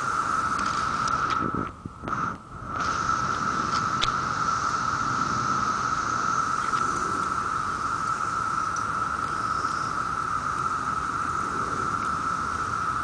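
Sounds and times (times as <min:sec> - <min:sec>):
cicadas droning: 0:00.0 - 0:13.0.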